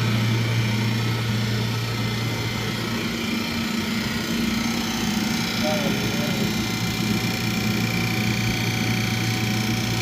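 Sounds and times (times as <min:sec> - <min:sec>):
chiller machine hum: 0:00.0 - 0:10.0
low hum tone: 0:00.0 - 0:10.0.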